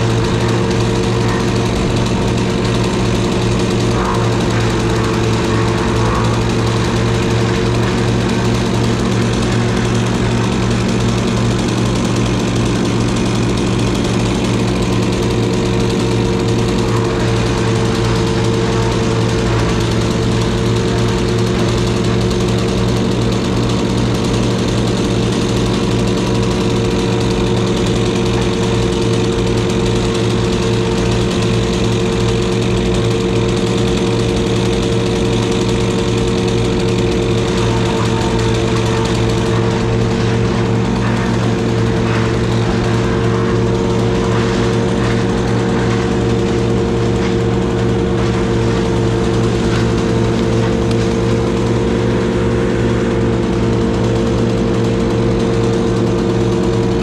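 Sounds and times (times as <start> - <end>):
combustion engine running steadily: 0.0 - 57.0.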